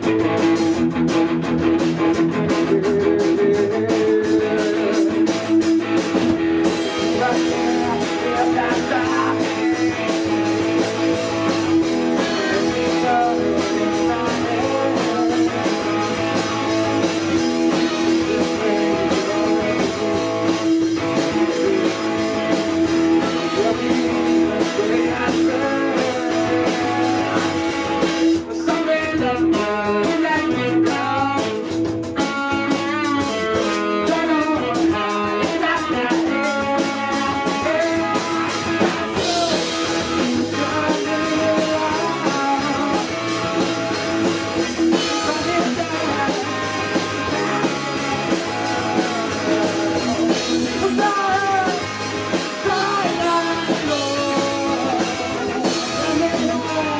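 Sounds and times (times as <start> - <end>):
rock band playing: 0.0 - 56.9.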